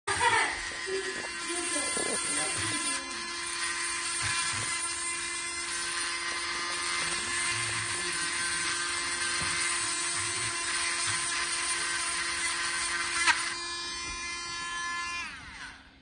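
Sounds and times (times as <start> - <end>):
drill bit grinding stone: 0.1 - 16.0
rotary drill whining: 0.1 - 16.0.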